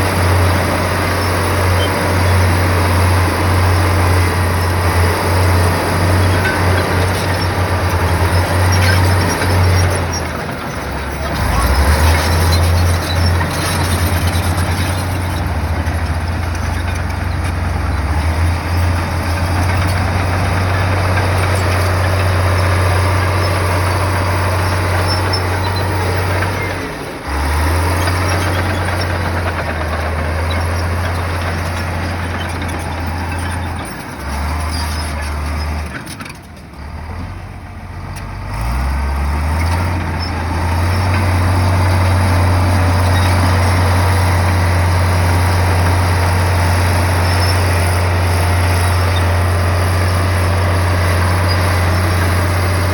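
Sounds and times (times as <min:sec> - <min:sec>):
bulldozer diesel engine under load: 0:00.0 - 0:52.9.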